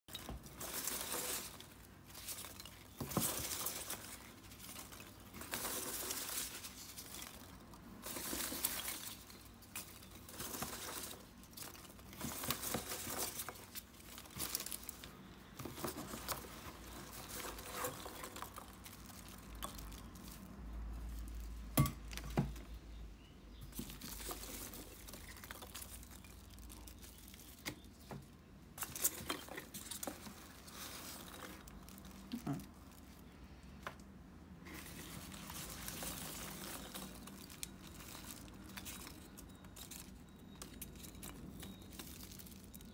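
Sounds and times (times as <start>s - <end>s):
packing peanuts rustling: 0.1s - 22.8s, 23.6s - 42.9s.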